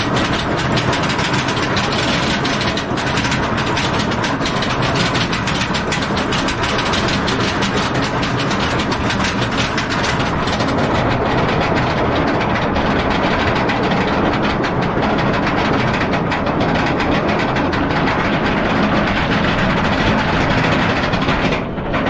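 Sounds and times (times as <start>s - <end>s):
roller coaster chain lift clatter: 0.0s - 22.0s.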